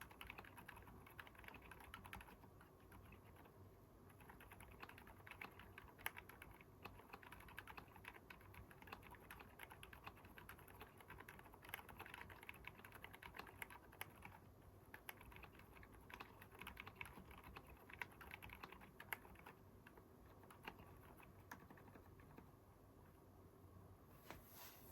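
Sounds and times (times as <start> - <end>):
soft keyboard typing: 0.0 - 22.6.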